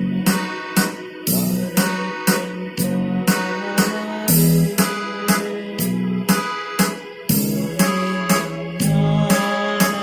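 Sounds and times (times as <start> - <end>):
keyboard bass notes and chords: 0.0 - 10.0
keyboard drum beat: 0.0 - 10.0.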